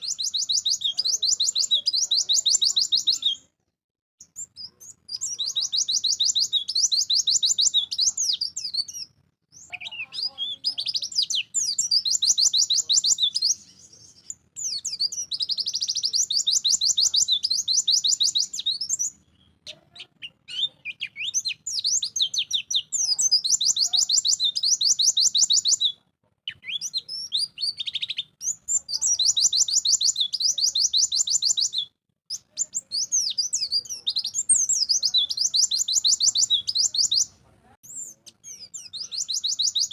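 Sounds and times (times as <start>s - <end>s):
bird singing fast high trills: 0.0s - 3.4s, 4.2s - 19.2s, 20.2s - 25.9s, 26.5s - 37.3s, 37.9s - 39.9s.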